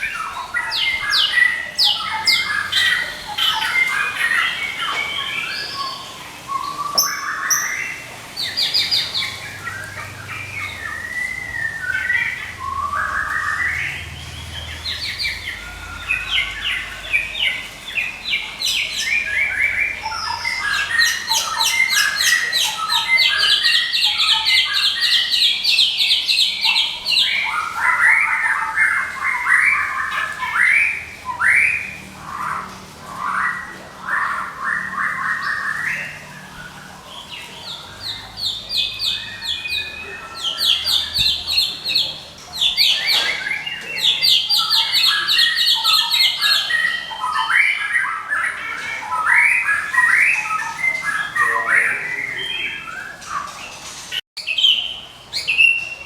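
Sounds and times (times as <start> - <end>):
bird calling with rattling notes: 0.0 - 56.0
bird song phrases: 0.0 - 56.0.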